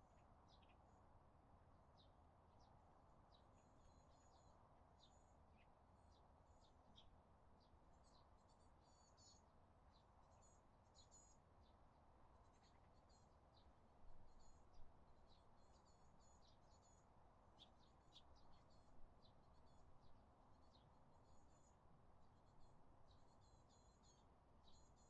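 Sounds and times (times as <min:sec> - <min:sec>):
small birds chirping: 0:00.0 - 0:01.0, 0:01.9 - 0:25.0.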